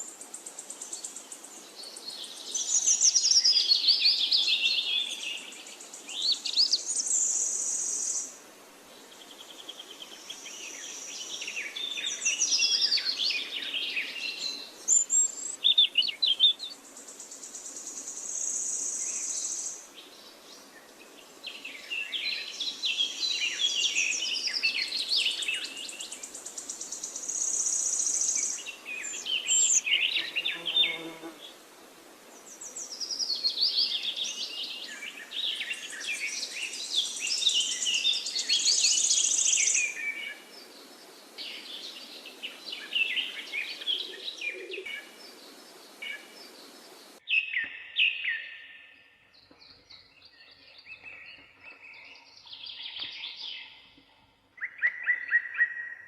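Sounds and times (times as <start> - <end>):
background hiss: 0.0 - 47.4
songbirds chirping and singing: 0.4 - 8.3, 9.1 - 31.5, 32.4 - 56.0.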